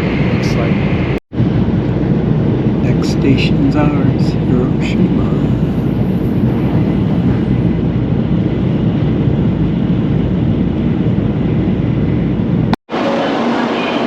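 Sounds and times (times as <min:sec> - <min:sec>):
train rumble inside passenger car: 0:00.0 - 0:14.0.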